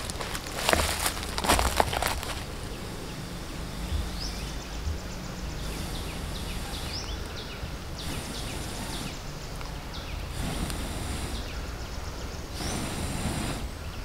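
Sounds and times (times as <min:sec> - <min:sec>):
high insect buzzing: 0:00.0 - 0:14.0
low steady rumble: 0:00.0 - 0:14.0
bird whistling calls: 0:01.0 - 0:14.0.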